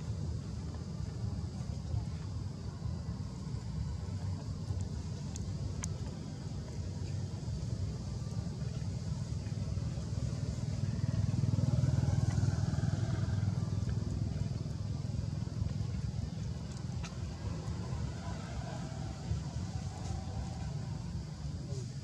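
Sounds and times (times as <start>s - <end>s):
passing traffic rumble: 0.0s - 22.0s.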